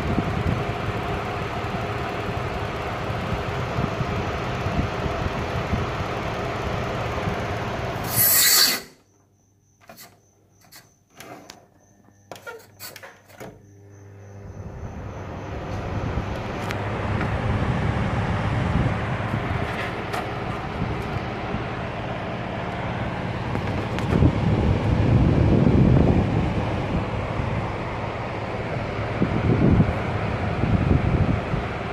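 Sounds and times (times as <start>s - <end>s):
air conditioner fan rushing air: 0.0s - 9.1s, 9.8s - 31.9s.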